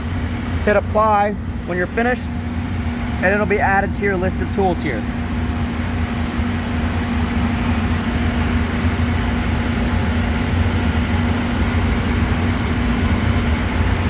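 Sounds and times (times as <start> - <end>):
machinery drone: 0.0 - 14.0.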